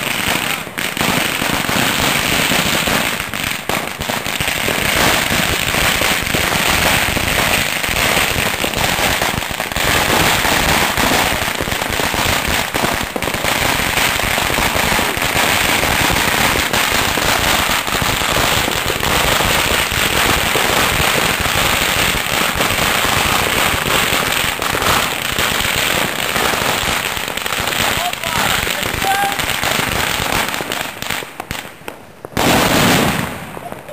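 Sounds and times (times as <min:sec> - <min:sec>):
string of firecrackers rattling: 0:00.0 - 0:33.9.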